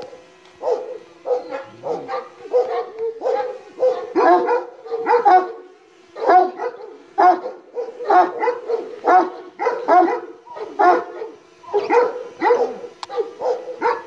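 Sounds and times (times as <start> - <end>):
dog barking: 0.6 - 14.0.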